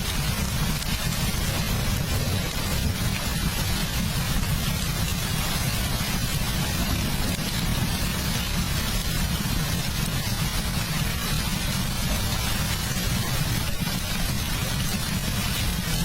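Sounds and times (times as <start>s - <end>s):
constant low rumble: 0.0s - 16.0s
heavy rain: 0.0s - 16.0s.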